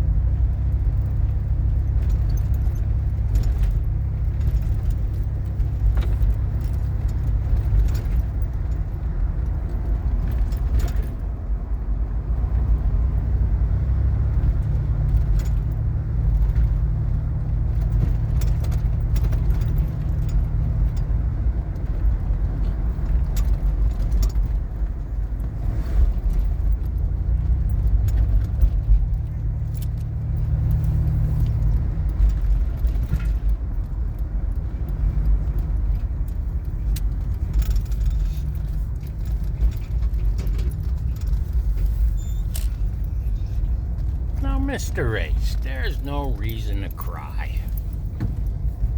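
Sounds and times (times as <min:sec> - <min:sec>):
engine and tyres droning: 0:00.0 - 0:45.6
light rattles and ticks: 0:00.1 - 0:13.4, 0:14.2 - 0:44.4.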